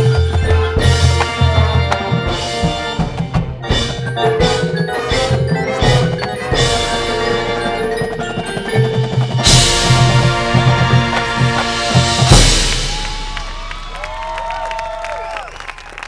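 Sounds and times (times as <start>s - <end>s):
mallet keyboards: 0.0s - 14.1s
drum pattern: 0.0s - 14.4s
marching band playing: 0.0s - 15.6s.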